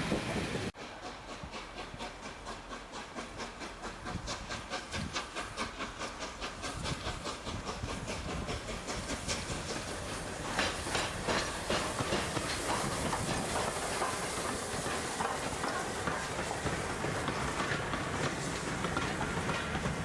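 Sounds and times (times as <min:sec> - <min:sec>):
steam hiss: 0:00.0 - 0:20.0
steam locomotive chuffing: 0:00.0 - 0:20.0.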